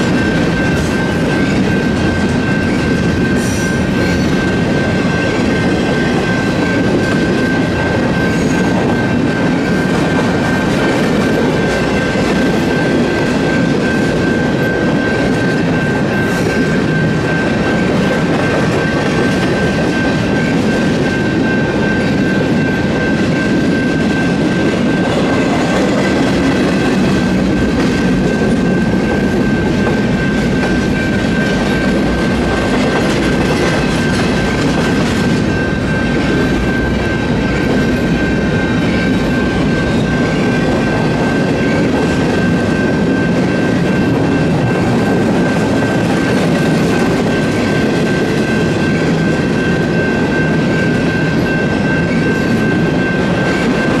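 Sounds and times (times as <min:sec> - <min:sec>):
crossing warning bell: 0:00.0 - 0:54.0.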